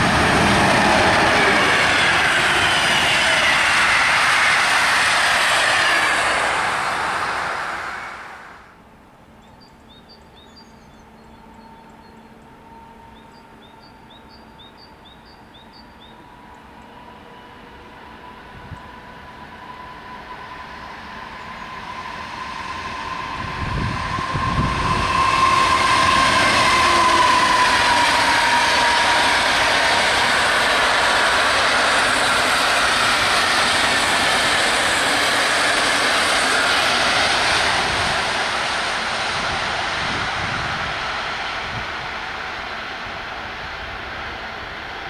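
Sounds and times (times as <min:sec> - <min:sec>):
train coaches rolling on rails: 0:00.0 - 0:08.0, 0:09.6 - 0:45.0
electric locomotive whine: 0:00.0 - 0:45.0.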